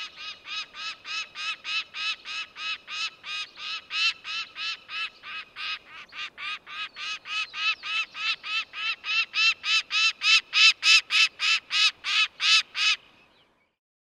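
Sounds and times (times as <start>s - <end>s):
falcon calling: 0.0s - 13.0s.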